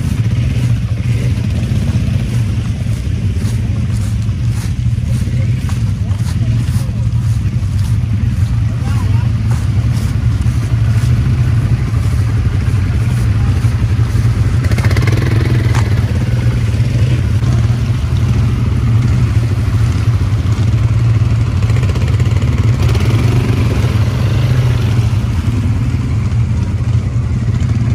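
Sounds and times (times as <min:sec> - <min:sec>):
quad bike engine running: 0:00.0 - 0:27.9.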